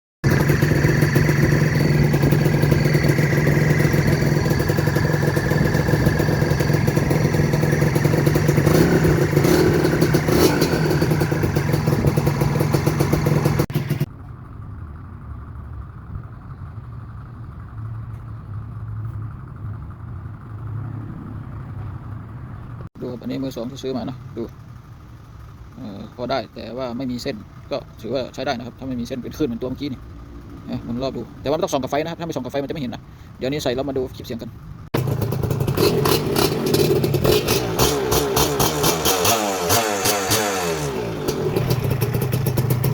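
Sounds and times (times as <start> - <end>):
vehicle engine running: 0.2 - 42.9.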